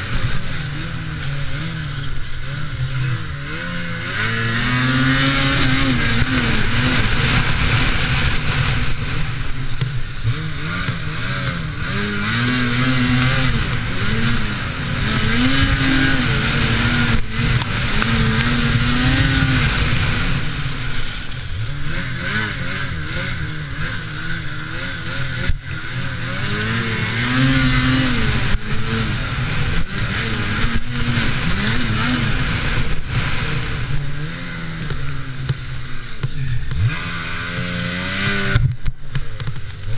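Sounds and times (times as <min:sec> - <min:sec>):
snowmobile engine revving: 0:00.0 - 0:39.9
track and wind noise: 0:00.0 - 0:39.9.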